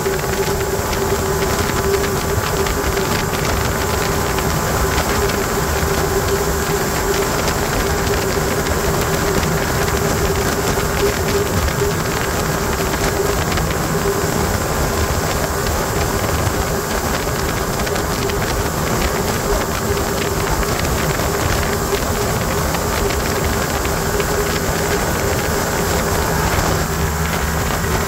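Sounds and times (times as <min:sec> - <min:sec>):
outboard motor whining: 0:00.0 - 0:28.0
rushing wind and water: 0:00.0 - 0:28.0.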